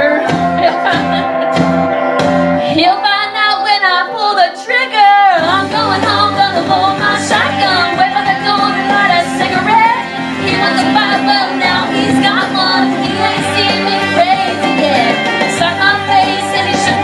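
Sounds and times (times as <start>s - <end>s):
woman singing country song: 0.0s - 1.6s, 2.6s - 17.0s
guitar accompaniment: 0.0s - 17.0s.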